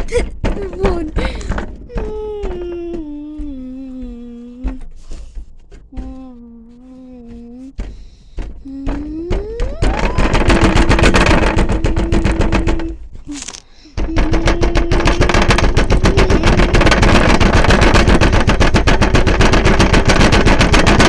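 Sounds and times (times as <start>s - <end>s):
knocks: 0.0s - 21.0s
washing machine motor whining: 0.0s - 21.0s
washing machine rattling and banging: 0.0s - 21.0s.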